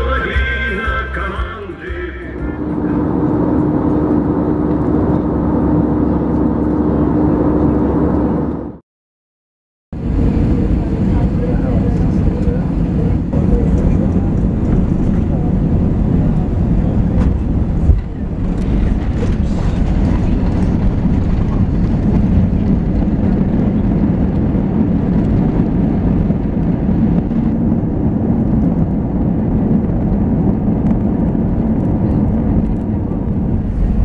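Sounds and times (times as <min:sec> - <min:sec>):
jet engines and wheels rumbling: 0:00.0 - 0:08.8, 0:10.0 - 0:34.0.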